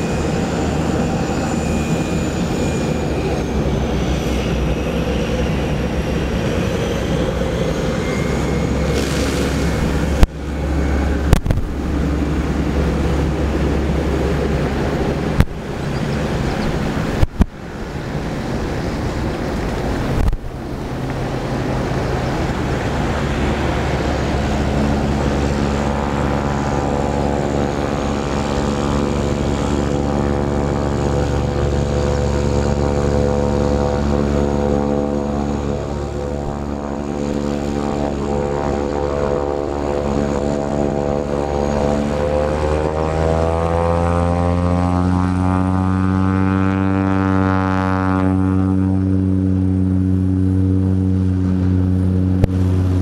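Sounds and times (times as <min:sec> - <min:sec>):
turboprop engine droning: 0:00.0 - 0:53.0
wind noise: 0:00.0 - 0:53.0.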